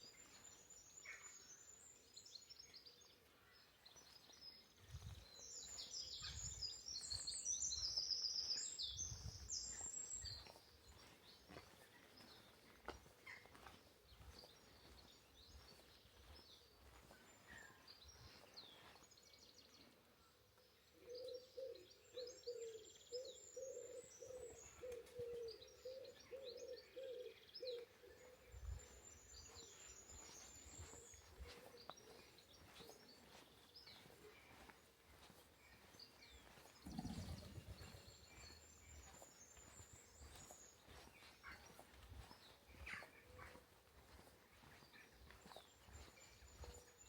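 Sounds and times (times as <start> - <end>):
small birds chirping and singing: 0.0 - 47.0.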